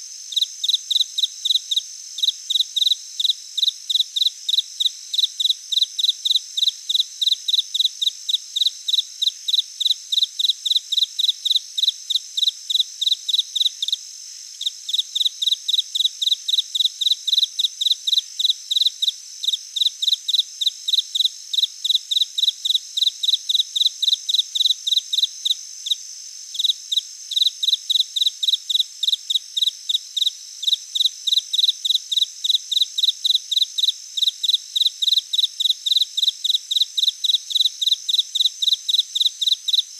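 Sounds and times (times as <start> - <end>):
high-pitched insect trill: 0.0 - 39.9
insects chirping: 0.0 - 39.9.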